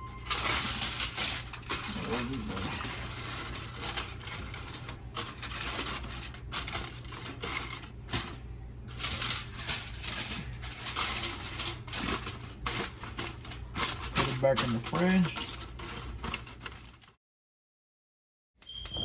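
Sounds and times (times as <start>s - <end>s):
steady low hum: 0.0s - 17.1s
clicking and crackling from handling: 0.2s - 17.2s.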